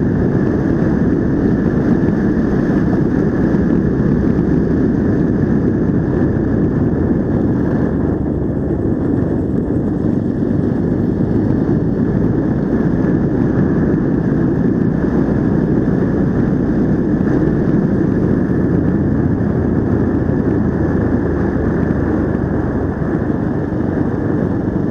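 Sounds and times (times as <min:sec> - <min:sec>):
motorcycle engine rumble: 0:00.0 - 0:24.9
wind and road noise: 0:00.0 - 0:24.9.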